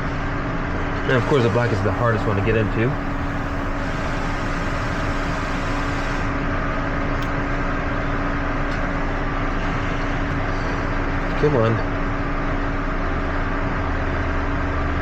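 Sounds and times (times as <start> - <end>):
mechanical running hum: 0.0 - 15.0.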